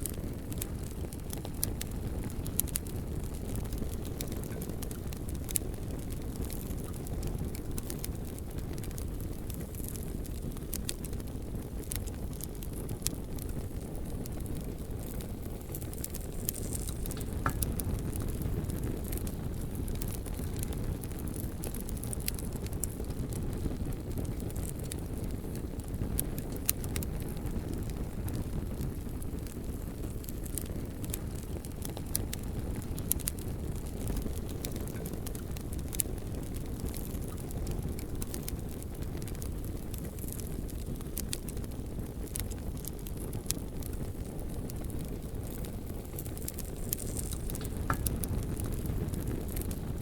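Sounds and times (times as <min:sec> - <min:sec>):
bonfire flames rumbling: 0:00.0 - 0:50.0
burning wood crackling and popping: 0:00.0 - 0:50.0.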